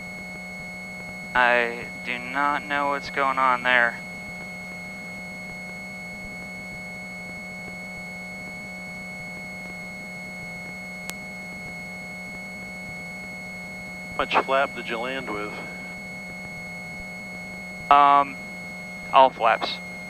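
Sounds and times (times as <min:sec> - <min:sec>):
intercom hum with high whine: 0:00.0 - 0:20.0.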